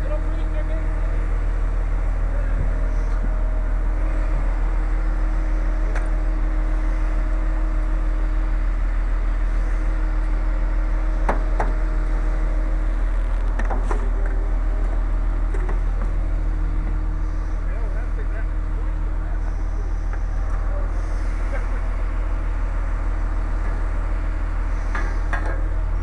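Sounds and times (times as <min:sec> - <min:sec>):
large engine idling: 0:00.0 - 0:26.0.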